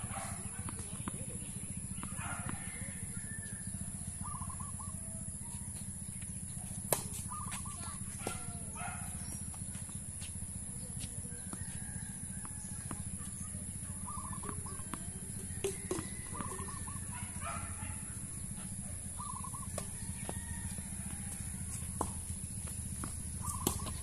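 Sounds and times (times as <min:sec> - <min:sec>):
tennis balls struck by rackets: 0:00.0 - 0:04.6, 0:05.2 - 0:24.0
birds chirping: 0:00.0 - 0:24.0.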